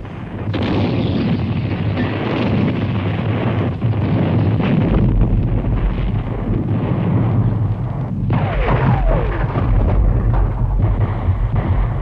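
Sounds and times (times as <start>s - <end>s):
artillery guns firing: 0.0s - 12.0s.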